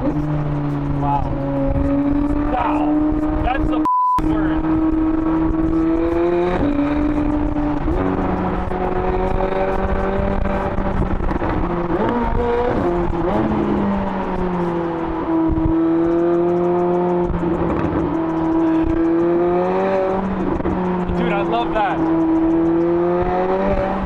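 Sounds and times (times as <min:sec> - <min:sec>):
exhaust crackles: 0:00.0 - 0:24.0
sports car engine accelerating: 0:00.0 - 0:24.0.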